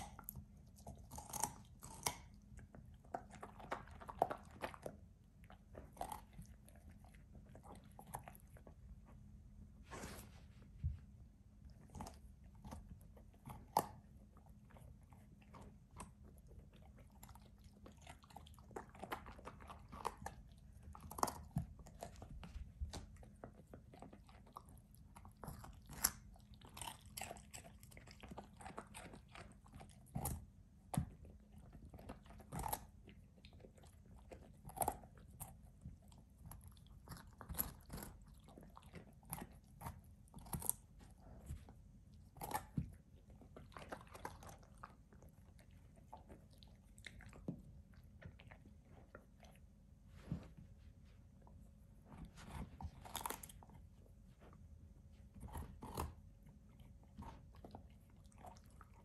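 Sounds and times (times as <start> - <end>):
puppy crunching carrot: 0.0 - 9.4, 10.8 - 50.5, 51.3 - 59.0.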